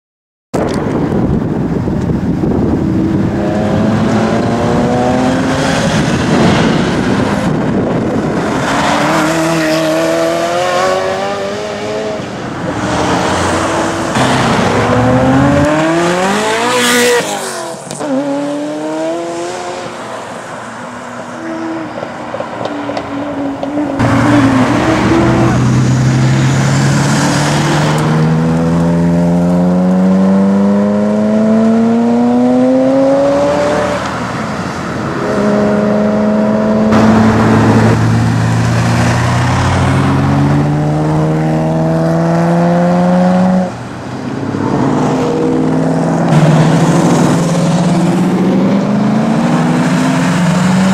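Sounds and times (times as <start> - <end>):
sports car engines accelerating: 0.8 - 19.9, 21.0 - 50.9.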